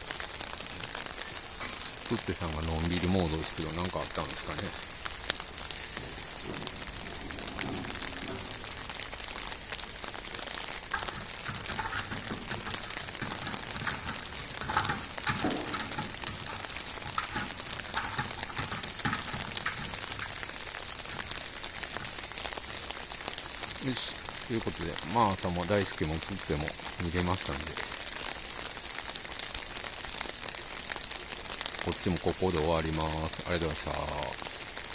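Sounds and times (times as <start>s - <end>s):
steady high hiss: 0.0s - 34.9s.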